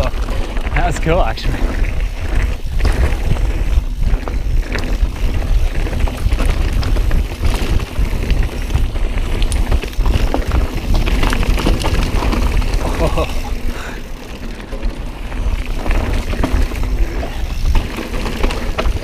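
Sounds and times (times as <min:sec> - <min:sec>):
bike rattling clicks: 0:00.0 - 0:19.0
bike tyres rumbling on rocky dirt: 0:00.0 - 0:19.0
wind buffeting microphone: 0:00.0 - 0:19.0.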